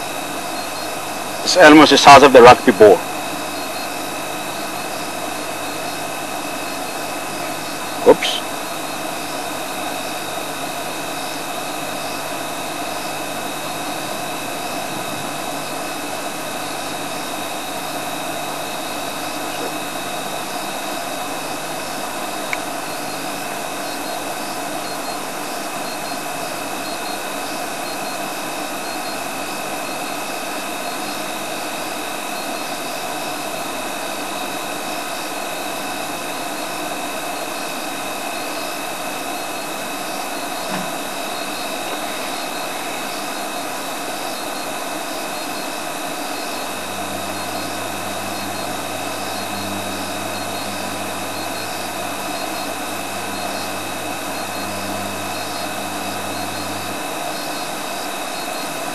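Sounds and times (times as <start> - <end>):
faint chirping: 0.0 - 30.1, 37.4 - 58.9
constant high-pitched tones: 0.0 - 58.9
steady hiss: 0.2 - 26.8, 27.4 - 58.9.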